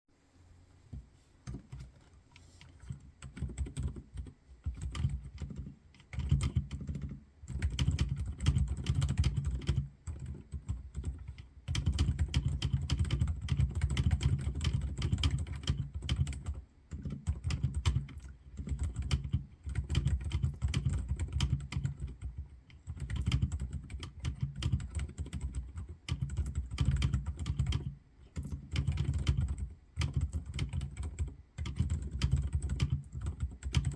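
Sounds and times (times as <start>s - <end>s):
soft mechanical keyboard typing: 1.4s - 33.9s.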